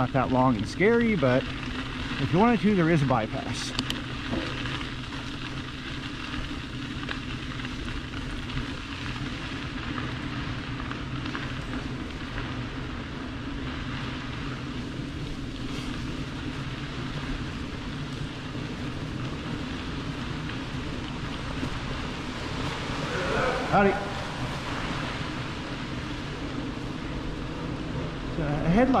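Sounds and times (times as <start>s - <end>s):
bicycle tyres rolling on gravel: 0.0s - 29.0s.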